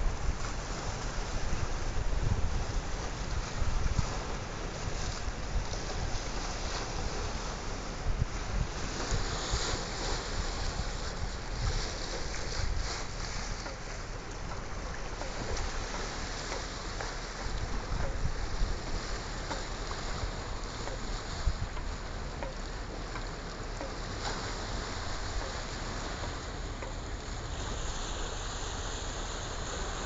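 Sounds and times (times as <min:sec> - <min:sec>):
sea waves breaking over rocks: 0:00.0 - 0:30.0
wind buffeting microphone: 0:00.0 - 0:30.0.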